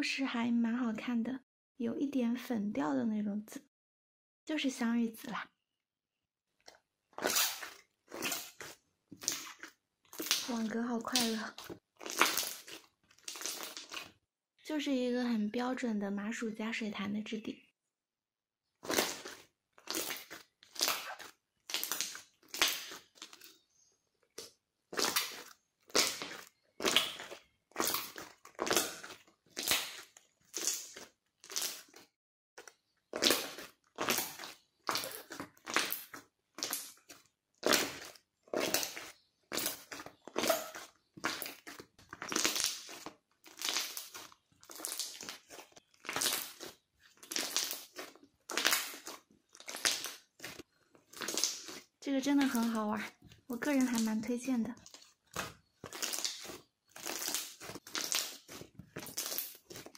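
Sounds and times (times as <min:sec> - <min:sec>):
slime squishing by hand: 0:06.5 - 0:14.2, 0:18.7 - 0:59.9.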